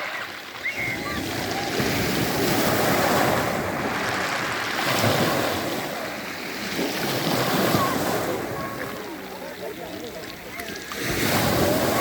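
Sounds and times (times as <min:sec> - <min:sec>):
waves breaking on pebble beach: 0:00.0 - 0:12.0.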